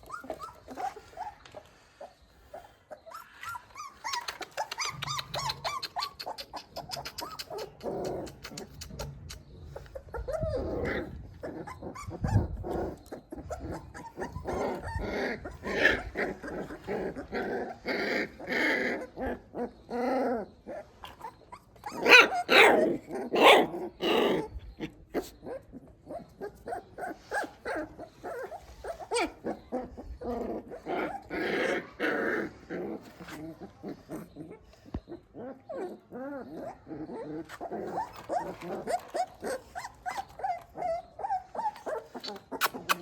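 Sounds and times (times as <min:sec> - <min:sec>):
puppies whimpering and yelping: 0:00.0 - 0:43.0.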